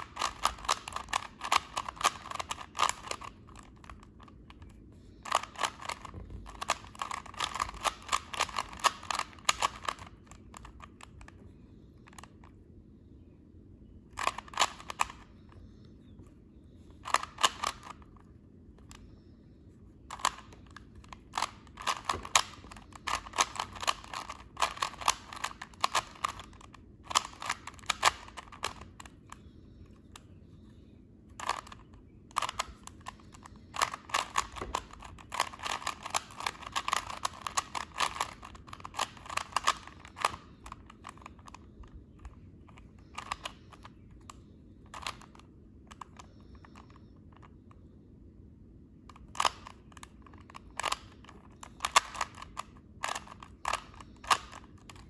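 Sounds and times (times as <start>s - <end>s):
puzzle cube layers clicking: 0.0s - 12.6s, 14.1s - 15.9s, 16.7s - 19.3s, 20.0s - 30.4s, 31.2s - 47.5s, 49.1s - 55.0s.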